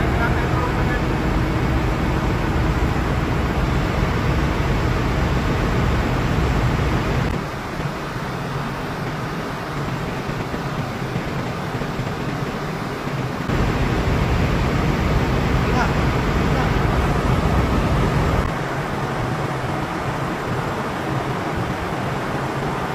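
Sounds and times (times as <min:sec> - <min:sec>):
engine room deep rumble: 0:00.0 - 0:22.9.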